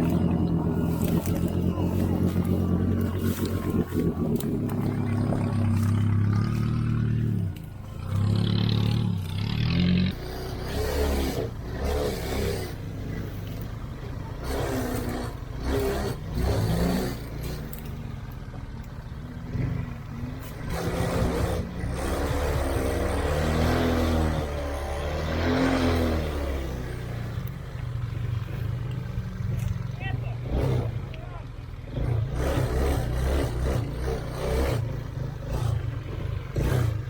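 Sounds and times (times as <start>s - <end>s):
off-road vehicle engine revving: 0.0s - 37.0s.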